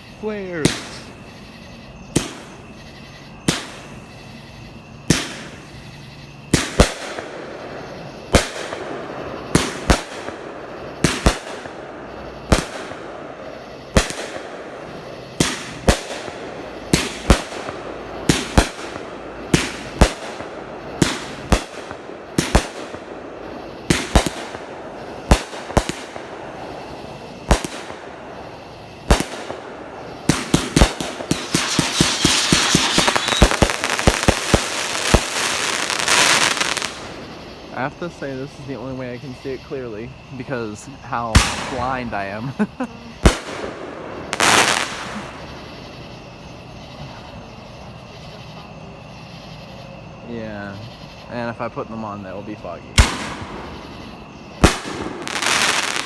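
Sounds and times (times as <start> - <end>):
fireworks crackle: 0.0 - 1.4, 2.1 - 2.6, 3.4 - 4.3, 5.1 - 46.3, 50.3 - 56.0
fireworks bangs: 0.0 - 47.4, 52.0 - 56.0.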